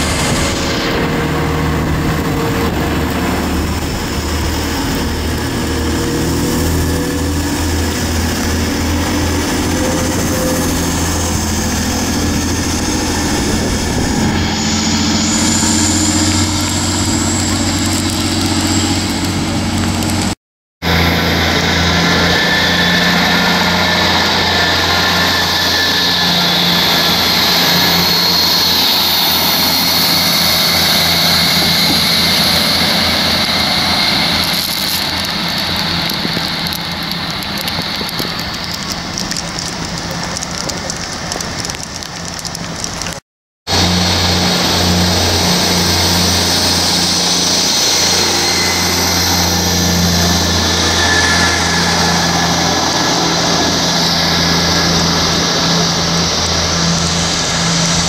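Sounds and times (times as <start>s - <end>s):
diesel train engines: 0.0s - 58.0s
steady rushing noise: 0.0s - 58.0s.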